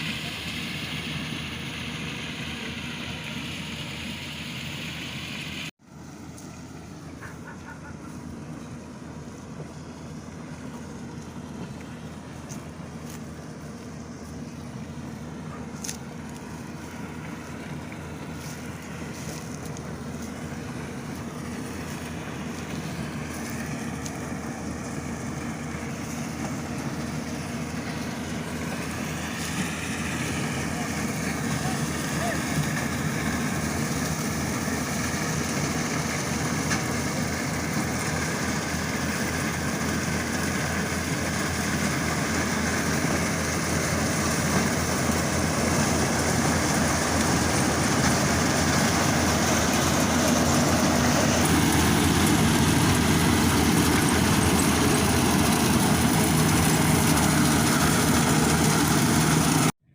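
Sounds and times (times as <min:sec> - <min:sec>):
harvester running: 0:00.0 - 0:59.9.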